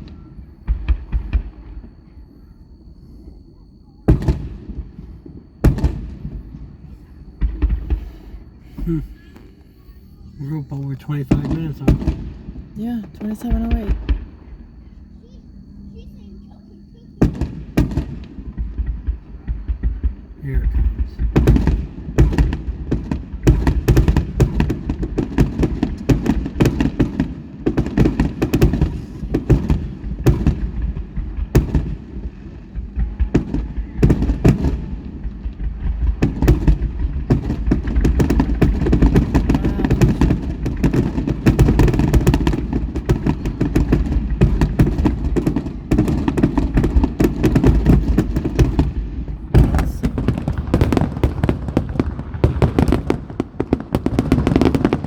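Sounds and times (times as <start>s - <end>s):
fireworks bangs and cracks: 0.0s - 2.5s, 4.1s - 55.0s
deep rumble: 0.0s - 55.0s.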